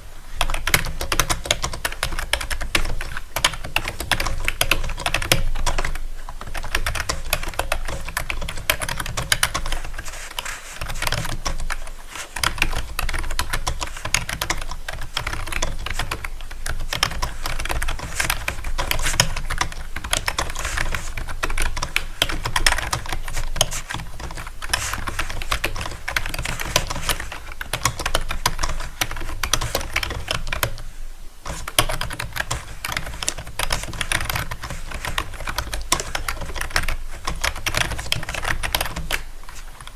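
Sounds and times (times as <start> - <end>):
fast typing on keyboard: 0.4 - 30.8, 31.5 - 39.9.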